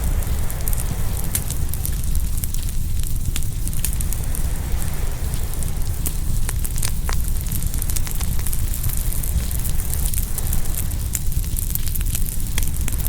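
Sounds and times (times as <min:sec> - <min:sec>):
low rumble: 0:00.0 - 0:13.0
wood fire crackling and popping: 0:00.0 - 0:13.0.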